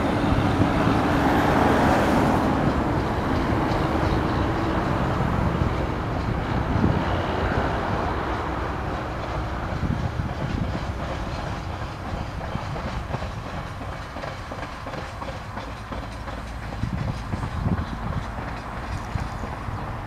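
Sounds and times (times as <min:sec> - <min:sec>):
freight train rolling on rails: 0:00.0 - 0:20.0.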